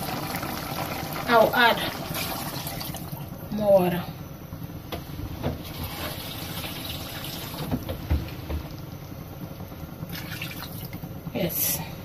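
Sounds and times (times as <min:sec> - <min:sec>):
pot of stock simmering on burner: 0:00.0 - 0:03.4, 0:04.3 - 0:11.3.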